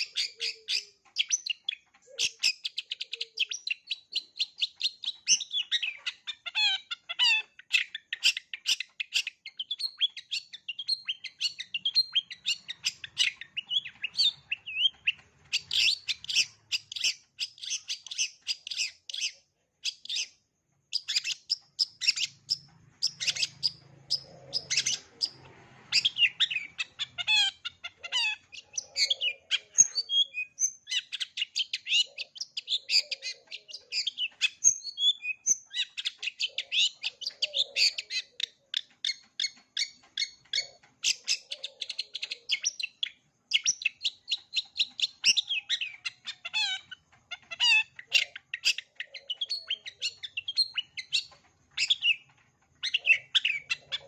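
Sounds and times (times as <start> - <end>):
shrike singing trills: 0.0 - 54.0.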